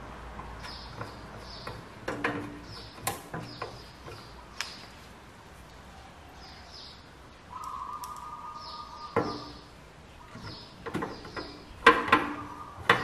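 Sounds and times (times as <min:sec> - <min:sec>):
small birds chirping: 0:00.4 - 0:05.2, 0:05.8 - 0:13.0.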